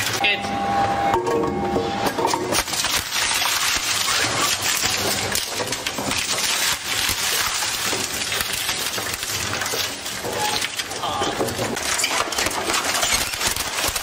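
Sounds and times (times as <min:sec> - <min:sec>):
shredder tearing wooden board: 0:02.5 - 0:14.0.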